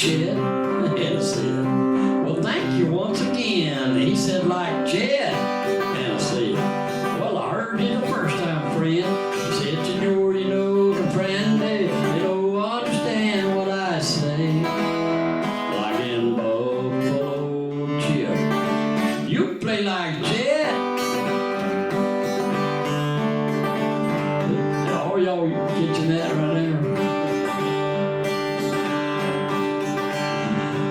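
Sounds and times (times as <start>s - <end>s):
man singing: 0.0s - 21.4s, 23.8s - 30.9s
acoustic guitar playing: 0.0s - 30.9s.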